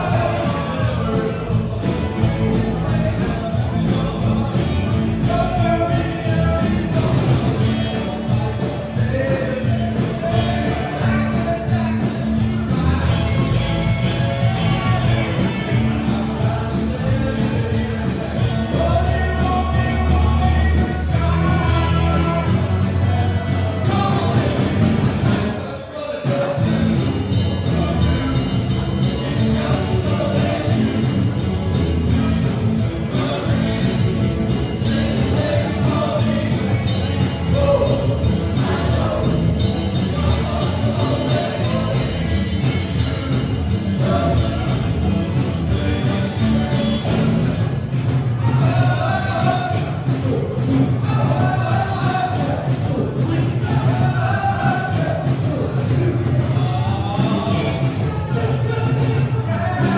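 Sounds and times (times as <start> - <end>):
lead vocal singing: 0.0 - 59.9
rock band playing: 0.0 - 59.9.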